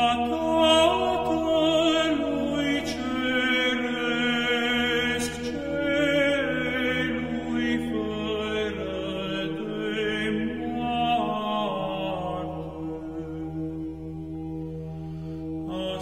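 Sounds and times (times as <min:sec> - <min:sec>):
steady low drone: 0:00.0 - 0:16.0.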